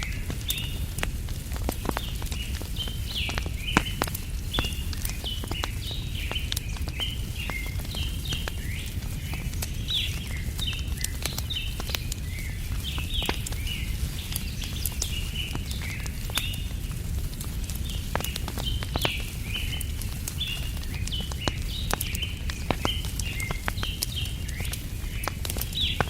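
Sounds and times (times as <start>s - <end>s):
small birds chirping: 0.0s - 26.0s
wood fire crackling and popping: 0.0s - 26.0s.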